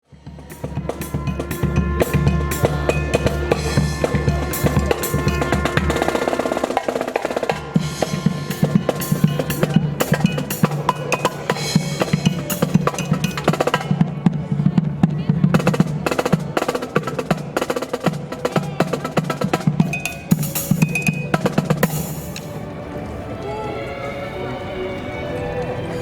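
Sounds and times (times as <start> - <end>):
marching snare and bass drums: 0.1 - 22.5.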